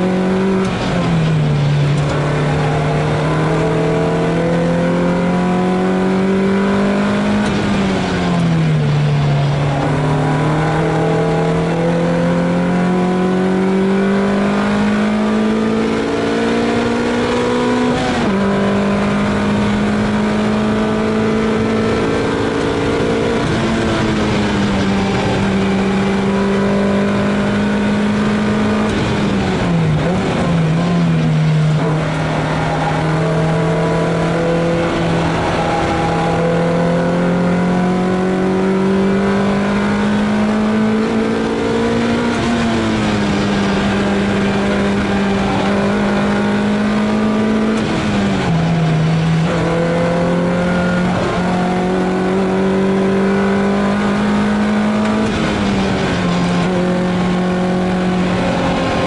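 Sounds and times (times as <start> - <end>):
car engine at racing speed: 0.0 - 59.0.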